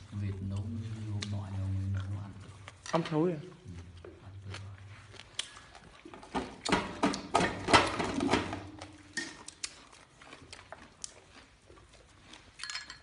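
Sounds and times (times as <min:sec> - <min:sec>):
chewing: 0:00.0 - 0:07.3, 0:08.7 - 0:13.0.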